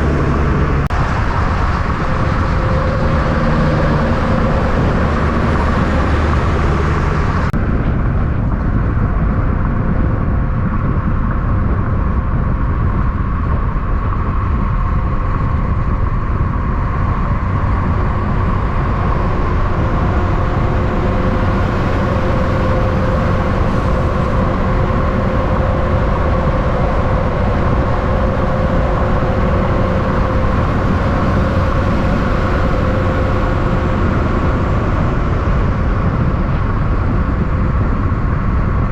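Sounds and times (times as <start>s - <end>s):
heavy road traffic: 0.0s - 38.9s.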